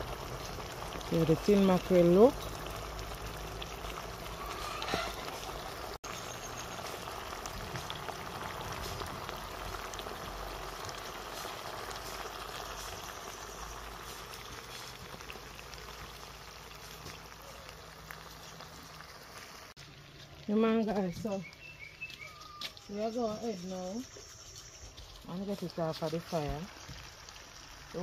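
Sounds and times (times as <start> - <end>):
stew boiling in a pot: 0.0 - 28.0.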